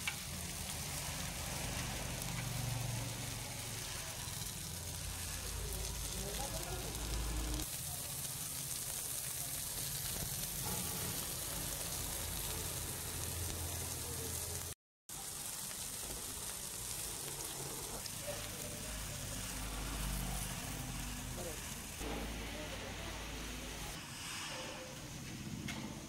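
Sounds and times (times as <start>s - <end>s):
fish sizzling on a griddle: 0.0s - 25.2s.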